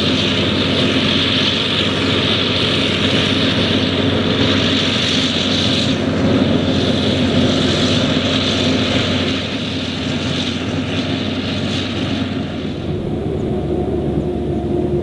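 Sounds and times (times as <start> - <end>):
high rushing hiss of chopping: 0.0 - 13.2
diesel engine drone: 0.0 - 15.0.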